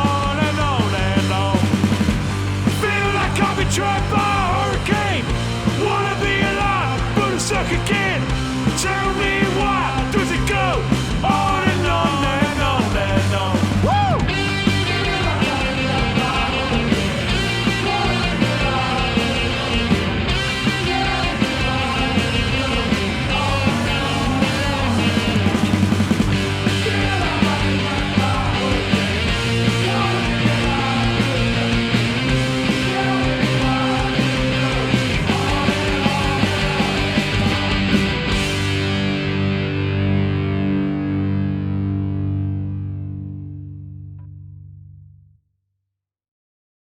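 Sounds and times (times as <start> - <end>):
punk rock band playing: 0.0 - 42.6.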